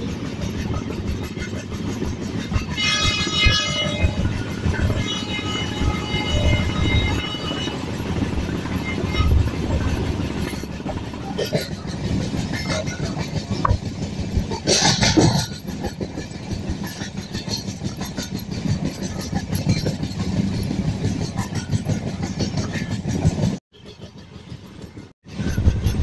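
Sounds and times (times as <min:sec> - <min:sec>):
train wheel and rail noise: 0:00.0 - 0:26.0
wheels clicking over track: 0:00.0 - 0:26.0.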